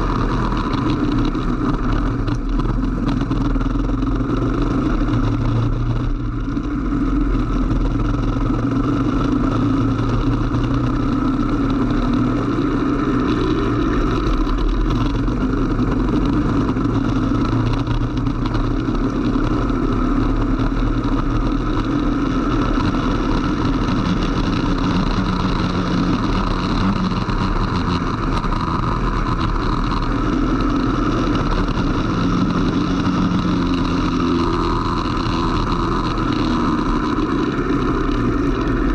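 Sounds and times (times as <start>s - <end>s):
kart engine running hard: 0.0s - 38.9s.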